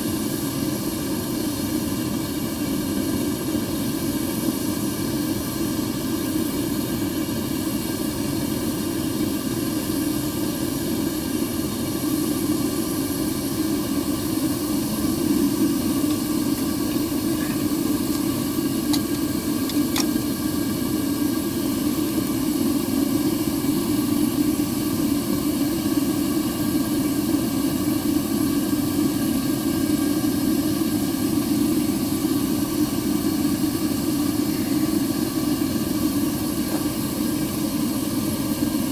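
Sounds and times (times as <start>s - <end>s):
furnace burner roar: 0.0s - 38.9s.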